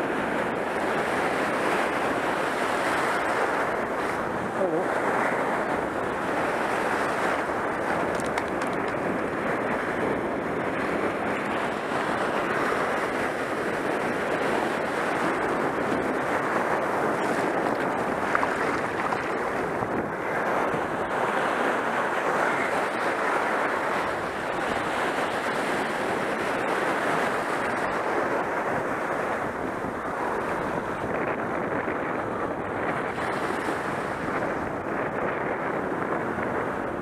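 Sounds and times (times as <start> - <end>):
surf washing over sand: 0.0 - 37.0
wind buffeting microphone: 0.0 - 37.0.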